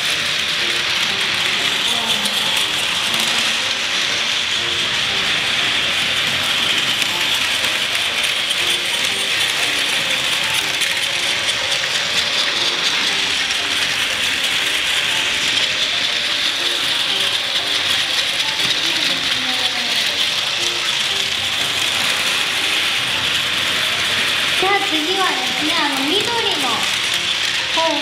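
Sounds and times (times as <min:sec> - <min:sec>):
toy train motors whirring: 0:00.0 - 0:28.0
wheels clattering on plastic rails: 0:00.0 - 0:28.0.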